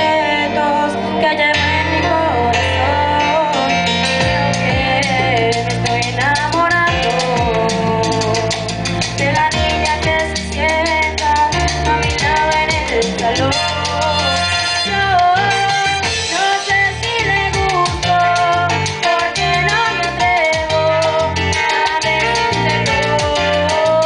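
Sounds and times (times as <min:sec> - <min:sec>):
band with bass and drums: 0:00.0 - 0:24.0.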